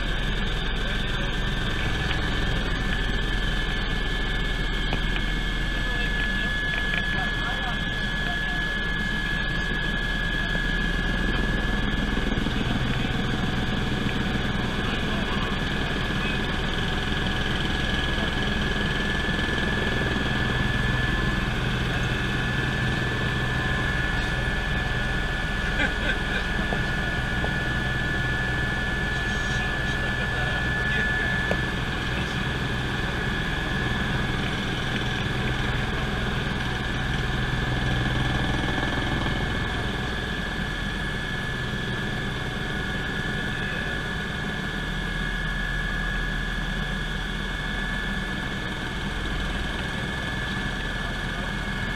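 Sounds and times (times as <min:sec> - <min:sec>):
helicopter rotor drone: 0:00.0 - 0:51.9
high turbine whine: 0:00.0 - 0:51.9.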